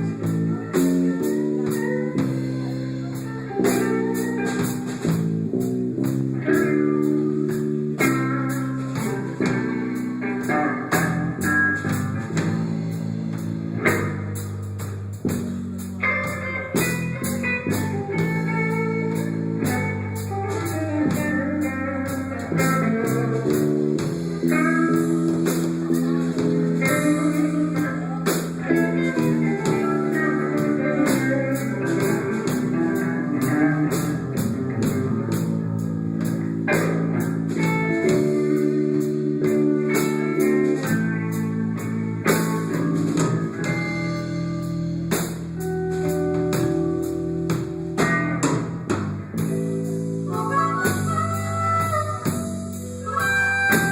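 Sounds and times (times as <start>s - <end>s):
instrumental guitar band music: 0.0s - 53.9s.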